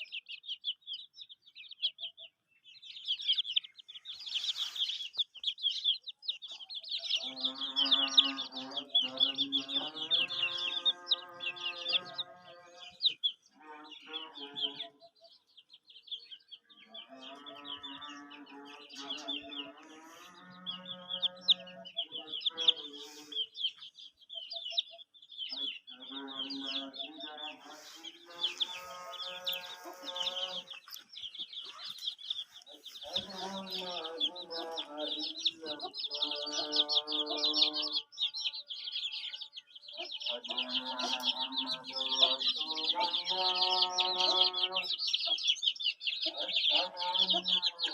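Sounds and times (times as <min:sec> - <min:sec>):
chicks peeping: 0:00.0 - 0:47.9.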